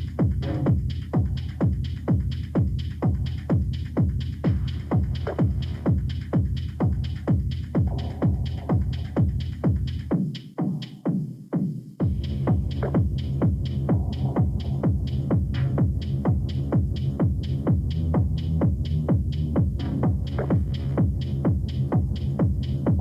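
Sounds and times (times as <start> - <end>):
heavy bassline: 0.0 - 10.1, 12.0 - 23.0
techno kick drum: 0.0 - 23.0.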